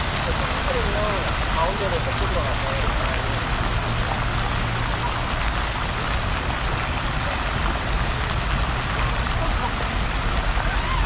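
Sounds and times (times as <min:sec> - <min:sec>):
constant low rumble: 0:00.0 - 0:11.0
fountain water rushing and splashing: 0:00.0 - 0:11.0.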